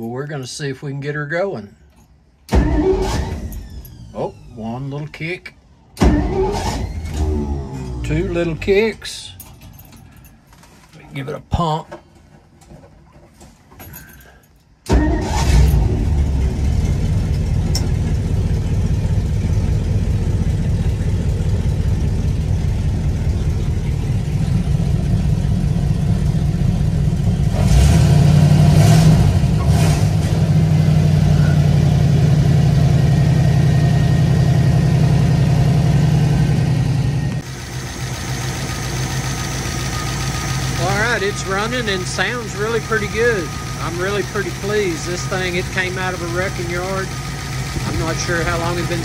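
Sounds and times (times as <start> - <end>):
pickup engine starting and running: 2.0 - 49.0.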